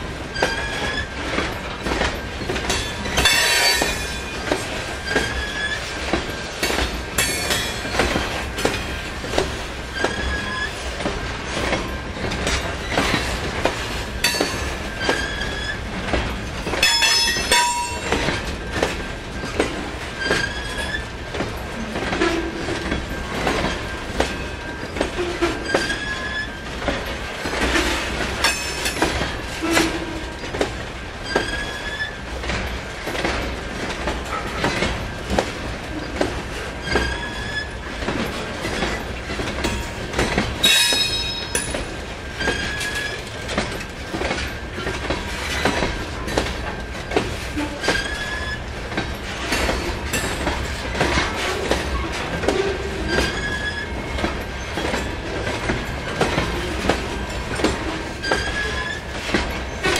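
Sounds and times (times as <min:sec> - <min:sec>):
freight train cars rolling: 0:00.0 - 0:59.9
wheels clicking over rail joints: 0:00.0 - 0:59.9
train wheel squeals: 0:00.3 - 0:21.4, 0:22.0 - 0:26.9, 0:27.5 - 0:30.6, 0:31.2 - 0:33.4, 0:35.9 - 0:59.9.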